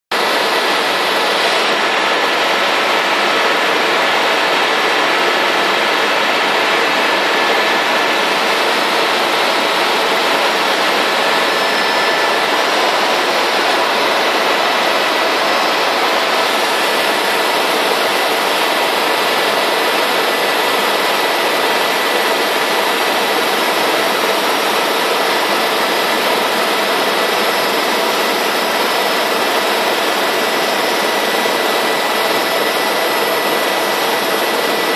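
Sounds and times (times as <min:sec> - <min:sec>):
helicopter engine and rotor rush: 0:00.1 - 0:34.9.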